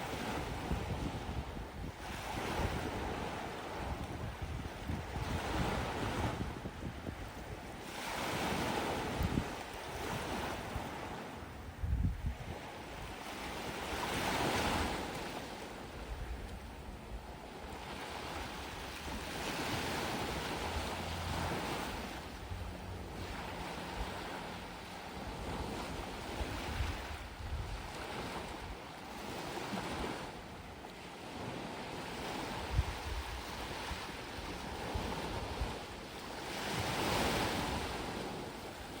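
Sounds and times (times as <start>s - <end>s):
waves washing onto sand: 0.0s - 39.0s.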